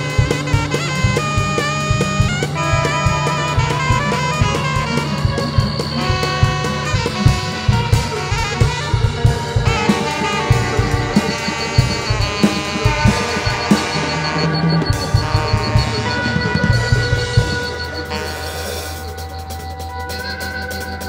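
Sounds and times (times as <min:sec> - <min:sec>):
lap steel guitar slide notes: 0:00.0 - 0:19.0
drum kit playing: 0:00.0 - 0:21.0
live instrumental band: 0:00.0 - 0:21.0.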